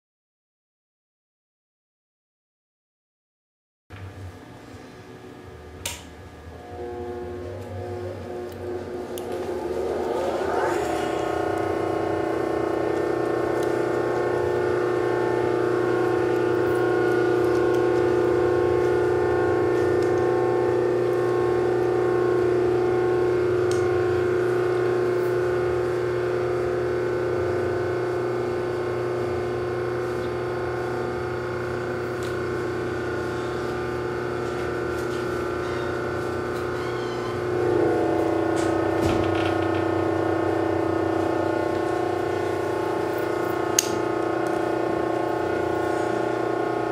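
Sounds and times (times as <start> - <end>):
electric motor hum and whine: 4.0 - 46.9.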